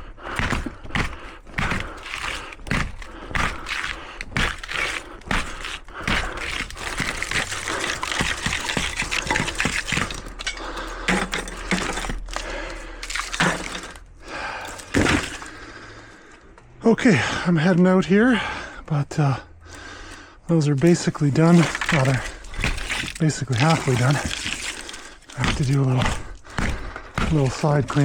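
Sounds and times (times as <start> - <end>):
crackling and scraping: 0.1 - 16.7, 19.7 - 28.0.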